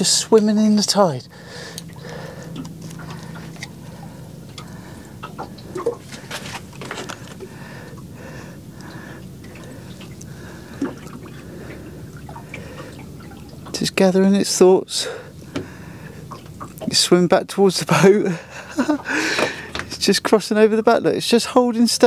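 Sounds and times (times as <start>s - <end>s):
water lapping against boat hull: 0.0s - 20.4s.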